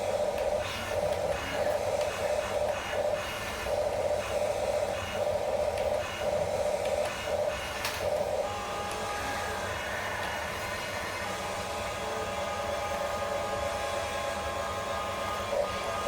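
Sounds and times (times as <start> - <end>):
small electric motors whirring: 0.0 - 16.0.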